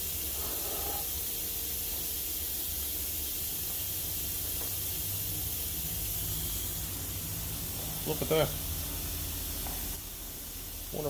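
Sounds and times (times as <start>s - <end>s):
pneumatic sander running: 0.0s - 10.0s
hiss of exhaust air: 0.0s - 11.0s.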